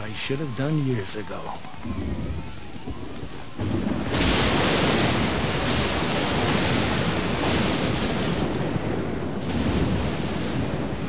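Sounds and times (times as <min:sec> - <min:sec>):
heavy rumbling thunder: 0:01.8 - 0:11.0
thunder crack: 0:01.8 - 0:11.0.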